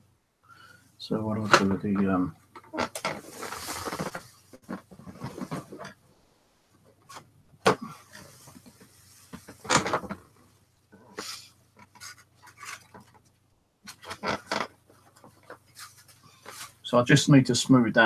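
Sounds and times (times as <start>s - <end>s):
rustling handling noise: 1.4s - 6.0s, 6.7s - 16.9s.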